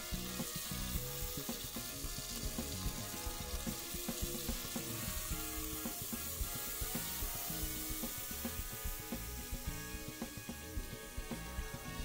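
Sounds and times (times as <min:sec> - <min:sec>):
background music with beat: 0:00.0 - 0:12.0
steak sizzling in a pan: 0:00.0 - 0:12.0.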